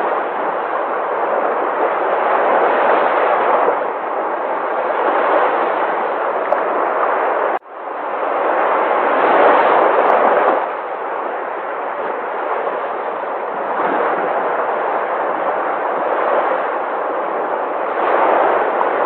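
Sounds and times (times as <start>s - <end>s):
sea waves rushing: 0.0s - 19.0s.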